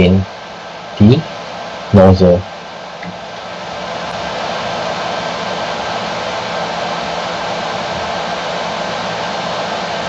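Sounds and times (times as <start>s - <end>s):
cooling fans whooshing: 0.0s - 10.0s.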